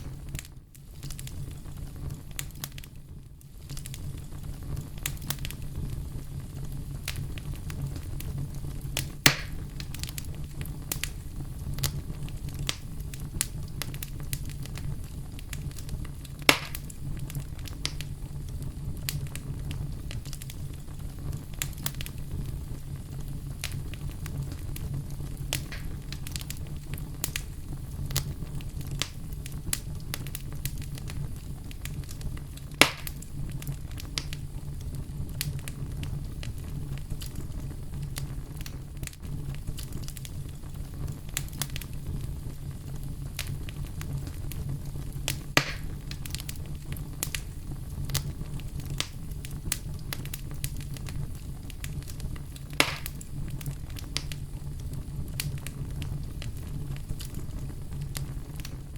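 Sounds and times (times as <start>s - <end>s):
bonfire flames rumbling: 0.0s - 58.9s
burning wood crackling: 0.0s - 58.9s
loud fire pops: 0.0s - 58.9s.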